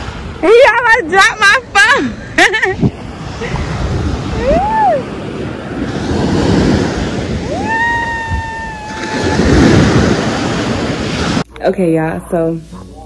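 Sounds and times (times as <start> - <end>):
ocean surf washing: 0.0 - 11.5
wind buffeting microphone: 0.0 - 11.5.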